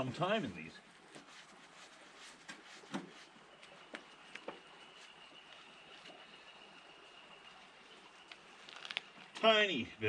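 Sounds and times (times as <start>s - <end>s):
low hiss: 0.0s - 10.0s.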